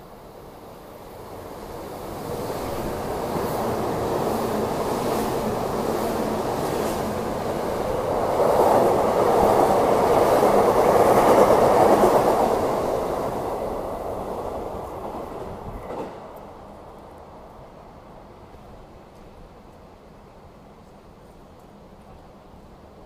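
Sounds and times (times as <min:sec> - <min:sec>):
electric train passing: 0:00.0 - 0:19.2.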